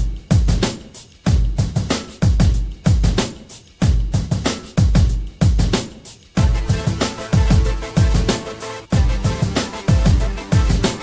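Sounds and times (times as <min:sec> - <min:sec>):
deep kick drums: 0:00.0 - 0:00.7, 0:01.3 - 0:05.8, 0:06.4 - 0:08.3, 0:09.0 - 0:10.9.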